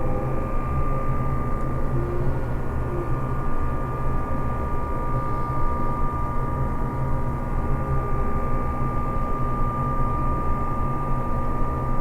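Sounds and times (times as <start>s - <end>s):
industrial low hum: 0.0s - 12.0s
steady whining tones: 0.0s - 12.0s.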